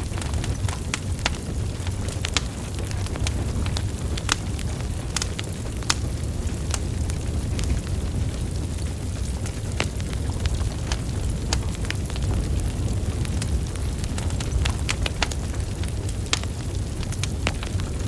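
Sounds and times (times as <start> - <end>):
burning logs crackling: 0.0 - 18.0
low rumble of flames: 0.0 - 18.0.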